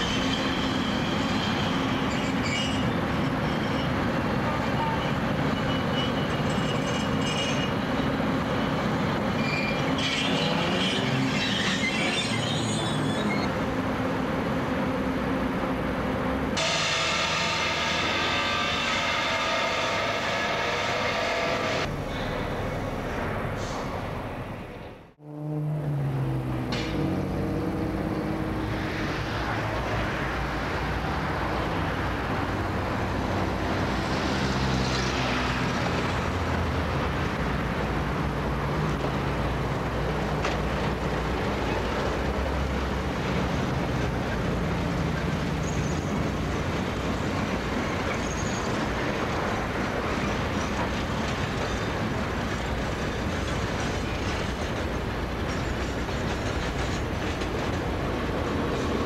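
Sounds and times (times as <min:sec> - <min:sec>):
train wagons rumbling: 0:00.0 - 0:25.1, 0:26.7 - 0:59.0
diesel locomotive engine: 0:00.0 - 0:59.0.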